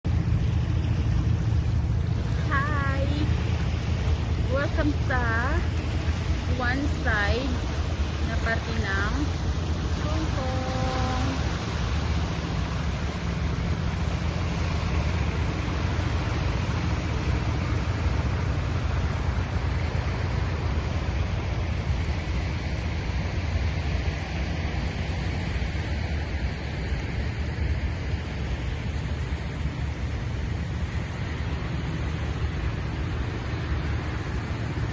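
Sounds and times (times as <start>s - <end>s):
steady rushing noise: 0.0s - 34.9s.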